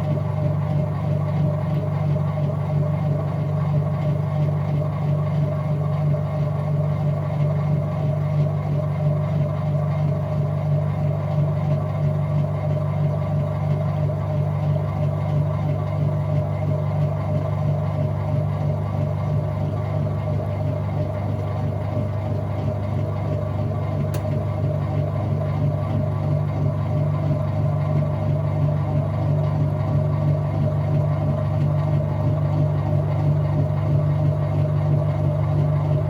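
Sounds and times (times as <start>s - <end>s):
washing machine running: 0.0s - 36.0s.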